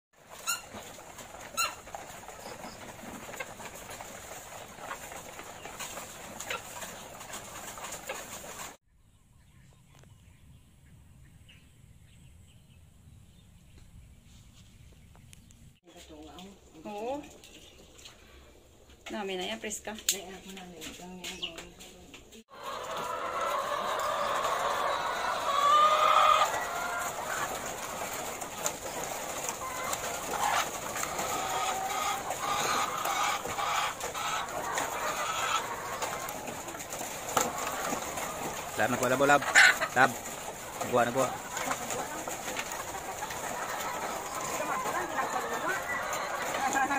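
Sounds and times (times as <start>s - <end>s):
hens clucking: 0.2s - 8.8s, 15.9s - 46.9s.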